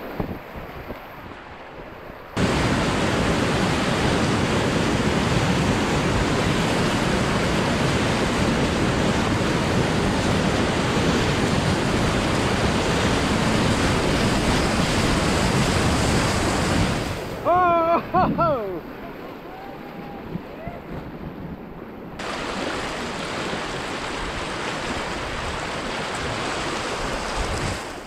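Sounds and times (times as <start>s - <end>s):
whitewater rapid rushing: 1.4s - 21.0s, 22.2s - 28.0s.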